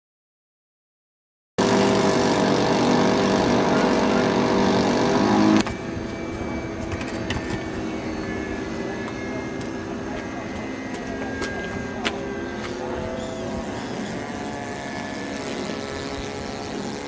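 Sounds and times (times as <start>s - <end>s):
loud motor drone: 1.6s - 17.0s
wind-like outdoor noise: 1.6s - 17.0s.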